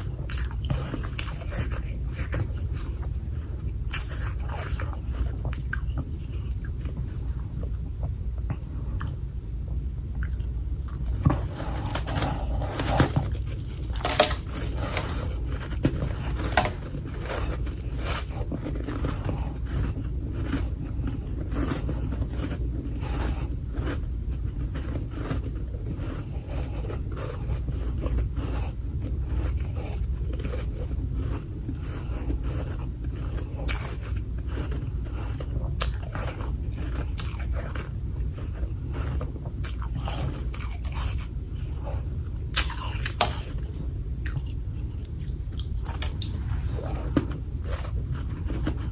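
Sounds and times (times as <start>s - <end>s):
chewing crunchy ice: 0.0s - 9.2s, 10.2s - 48.9s.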